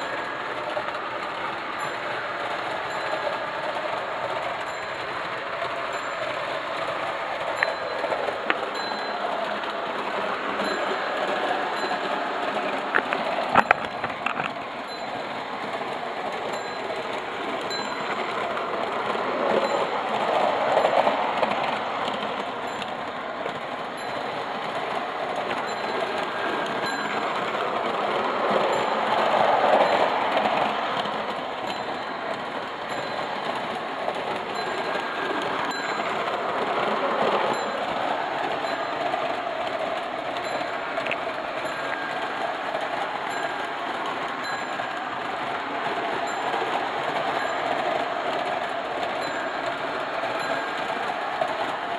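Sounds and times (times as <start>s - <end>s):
steel wheels rolling on track: 0.0s - 51.9s.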